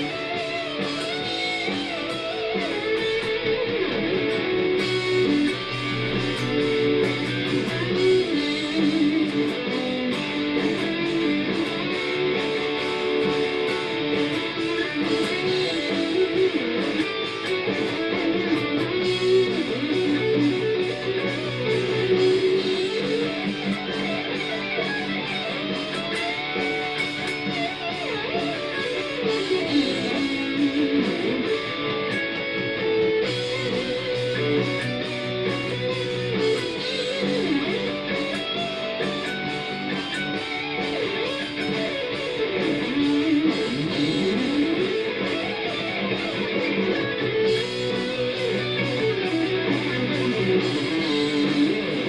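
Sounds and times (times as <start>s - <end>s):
backing track with drums: 0.0s - 52.0s
electric guitar lead with bends: 0.0s - 52.0s.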